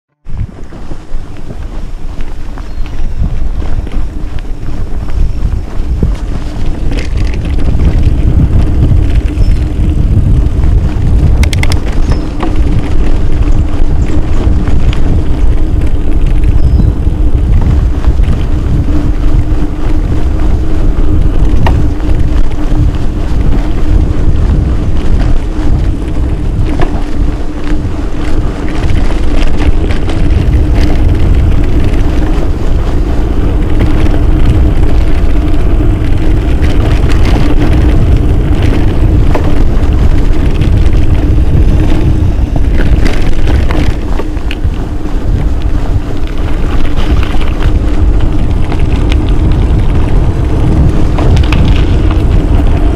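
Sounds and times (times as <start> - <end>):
bike tyre noise: 0.1 - 52.9
steady low hum: 0.1 - 52.9
wind rumbling on microphone: 0.1 - 52.9
bike clicks and rattles: 0.2 - 52.9.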